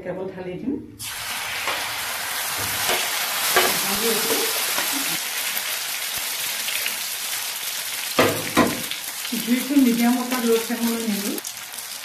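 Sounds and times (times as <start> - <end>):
batter sizzling in hot oil: 1.0 - 12.0.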